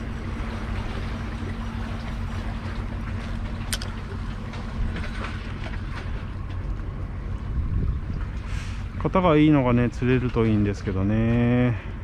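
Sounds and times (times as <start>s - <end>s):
sea water washing against concrete: 0.0s - 12.0s
wind rumbling on microphone: 0.0s - 12.0s.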